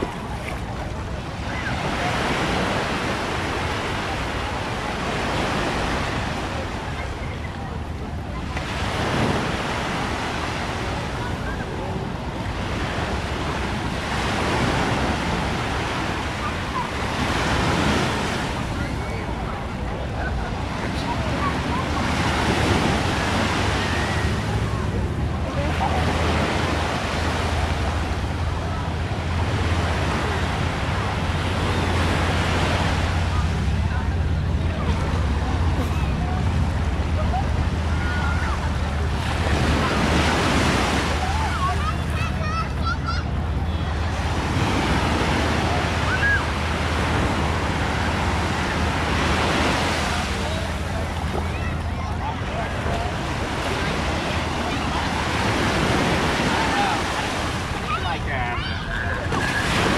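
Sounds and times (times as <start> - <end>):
faint voices: 0.0 - 59.9
small waves washing on beach: 0.0 - 59.9.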